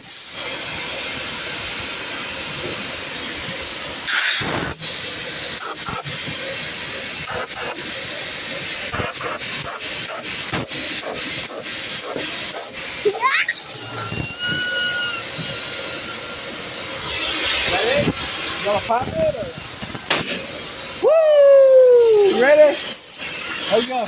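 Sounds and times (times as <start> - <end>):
short sharp air bursts: 0.0 - 2.5, 3.3 - 21.0, 22.1 - 24.0
rushing air hiss: 0.0 - 24.0.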